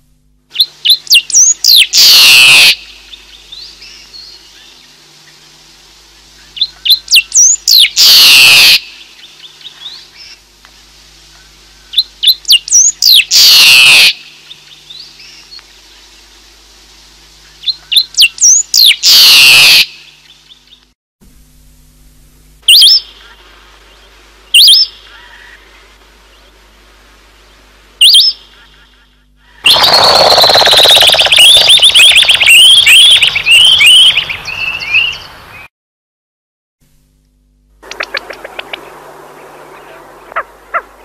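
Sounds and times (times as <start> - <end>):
songbird singing: 0.5 - 20.9, 22.7 - 35.7, 37.8 - 41.0.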